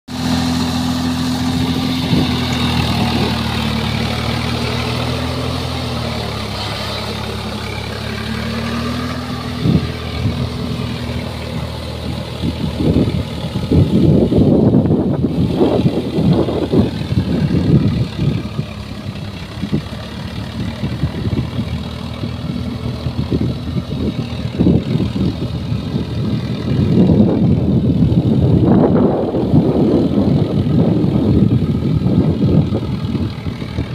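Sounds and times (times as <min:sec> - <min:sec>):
tractor diesel engine running: 0:00.1 - 0:33.9
uneven rumbling bursts: 0:00.1 - 0:33.9.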